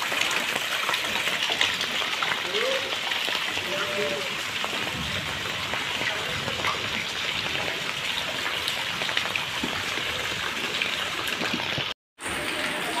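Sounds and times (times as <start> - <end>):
heavy rain on standing water: 0.0 - 13.0.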